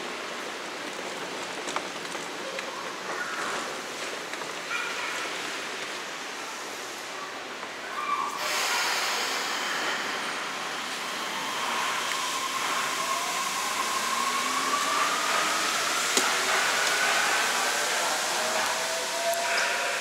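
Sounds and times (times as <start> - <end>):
train running noise: 0.0 - 20.0.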